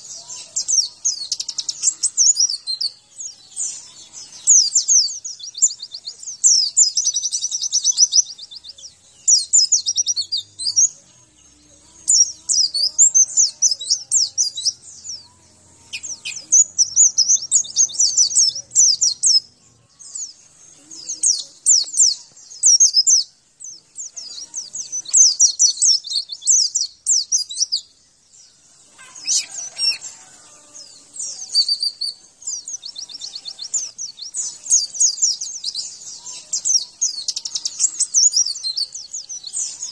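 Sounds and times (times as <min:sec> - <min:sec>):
white-eye bird twittering song: 0:00.0 - 0:11.0, 0:12.0 - 0:39.9.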